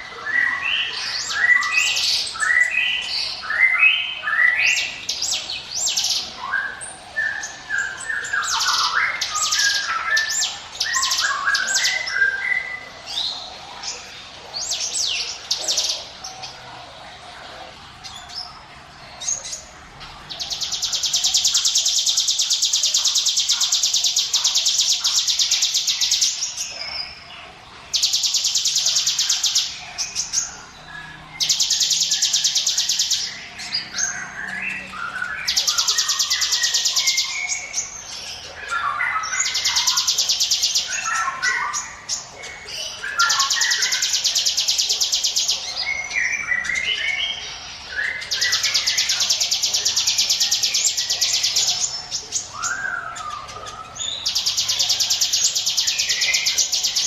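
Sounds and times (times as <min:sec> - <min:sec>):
songbird trilling and chirping: 0:00.0 - 0:57.0.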